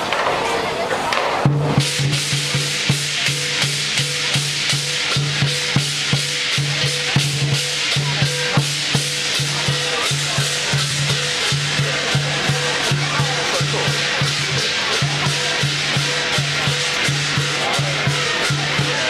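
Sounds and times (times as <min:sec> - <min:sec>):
cymbals clashing: 0:00.0 - 0:19.0
big drum beating: 0:01.1 - 0:19.0.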